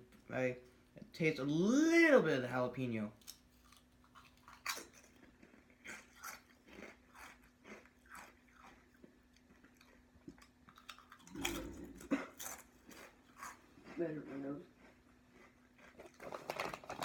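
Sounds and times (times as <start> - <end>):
person chewing crisps: 3.2 - 17.0.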